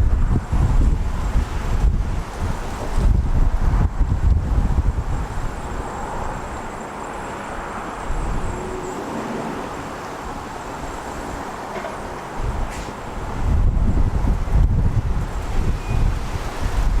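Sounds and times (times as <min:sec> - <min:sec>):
low buffeting rumble: 0:00.0 - 0:17.0
strong wind on microphone: 0:00.0 - 0:17.0.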